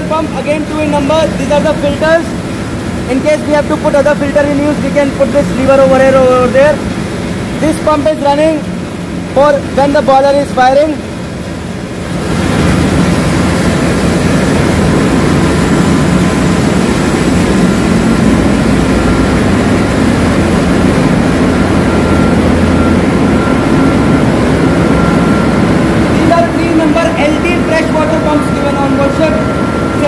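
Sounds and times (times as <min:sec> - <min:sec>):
engine room machinery din: 0:00.0 - 0:30.0.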